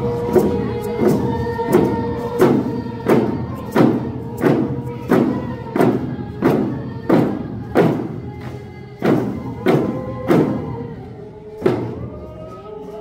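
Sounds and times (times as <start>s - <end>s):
hand drum beat: 0.0s - 11.0s
group of voices singing: 0.0s - 13.0s.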